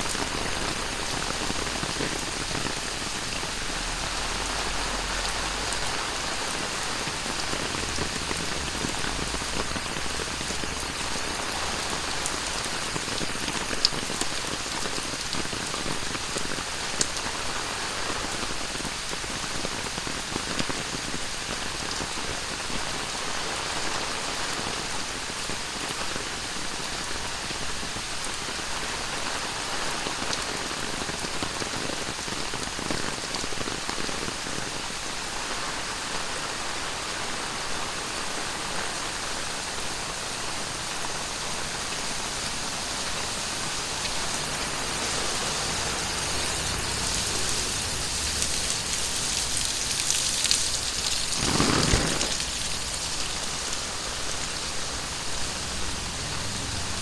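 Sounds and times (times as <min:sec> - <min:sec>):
heavy rain on hard surfaces: 0:00.0 - 0:57.0.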